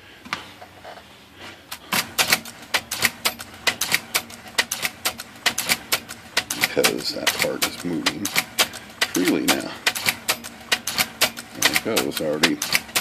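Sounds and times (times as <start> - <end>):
electric typewriter clacking: 1.8 - 13.0.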